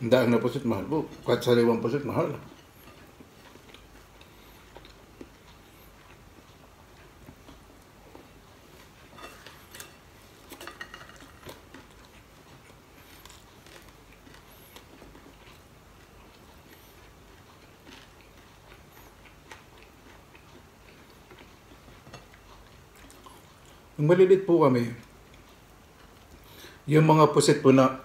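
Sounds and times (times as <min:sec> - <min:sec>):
chewing: 0:00.5 - 0:24.0, 0:25.0 - 0:26.8.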